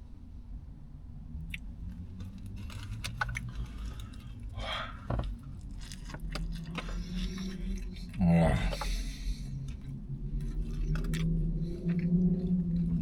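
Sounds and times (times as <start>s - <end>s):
chewing with mouth clicks: 1.5s - 13.0s.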